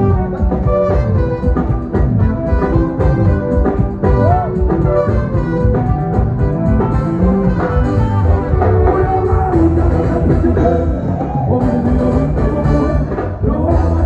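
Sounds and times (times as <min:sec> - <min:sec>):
music over steady beat: 0:00.0 - 0:14.0.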